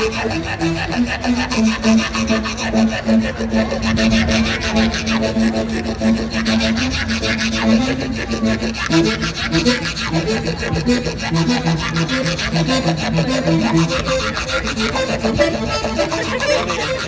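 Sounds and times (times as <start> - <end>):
held low note: 0.0 - 17.0
rasping scraper percussion: 0.0 - 17.0.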